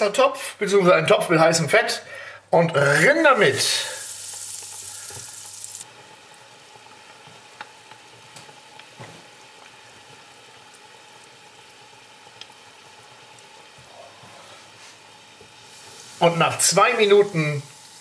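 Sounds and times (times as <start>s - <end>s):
croquette sizzling in hot fat: 2.7s - 18.0s.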